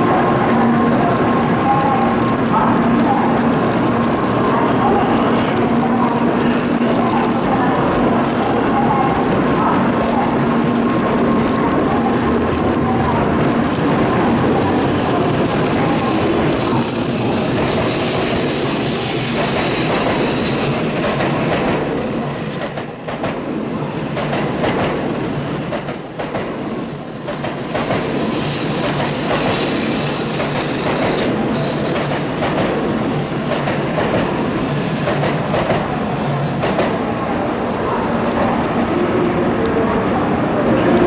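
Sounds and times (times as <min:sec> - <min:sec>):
train wheels rushing on rail: 0:00.0 - 0:41.0.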